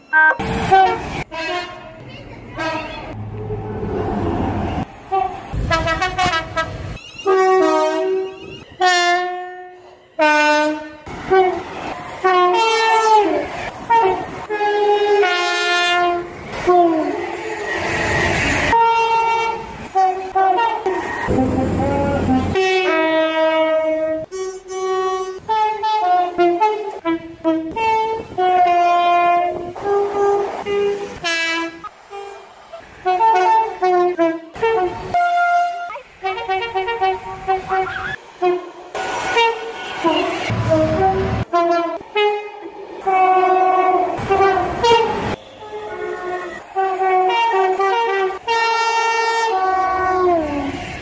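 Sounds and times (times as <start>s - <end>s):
train horn blasts: 0.1s - 1.9s, 5.1s - 11.6s, 12.2s - 17.3s, 18.7s - 51.0s
train rumbling by: 0.4s - 51.0s.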